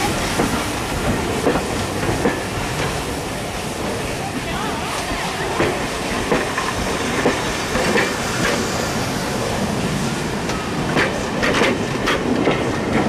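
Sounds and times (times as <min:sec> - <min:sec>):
train wheels rumbling on rail: 0:00.0 - 0:13.0
wheels clicking over rail joints: 0:00.0 - 0:13.0.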